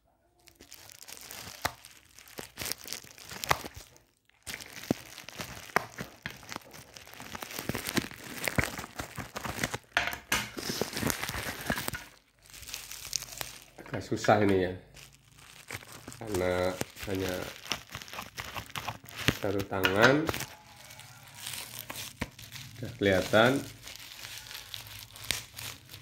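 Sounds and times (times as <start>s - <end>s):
plastic wrapping crinkling and tearing: 0.3s - 26.0s.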